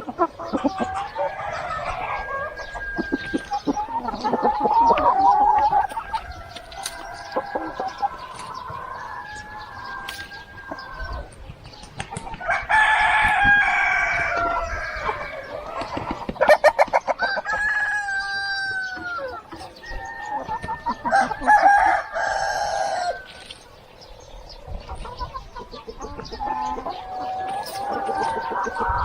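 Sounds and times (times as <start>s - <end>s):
hens clucking: 0.0s - 29.0s
roosters crowing: 0.0s - 29.0s.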